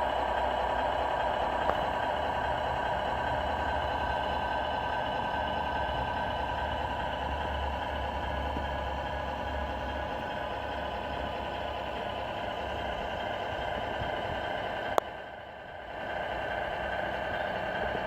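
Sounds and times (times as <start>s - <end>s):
model truck running: 0.0s - 18.0s.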